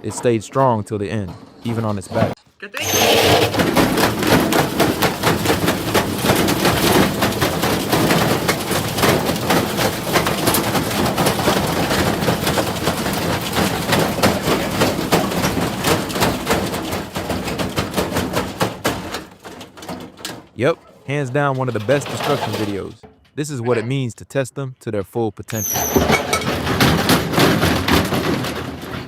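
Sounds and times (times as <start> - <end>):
bricks clattering in washing machine: 1.1 - 23.4, 25.6 - 29.0.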